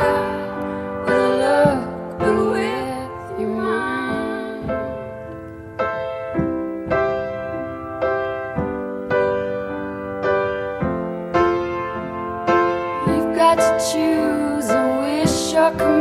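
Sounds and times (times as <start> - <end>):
piano chords ringing: 0.0 - 16.0.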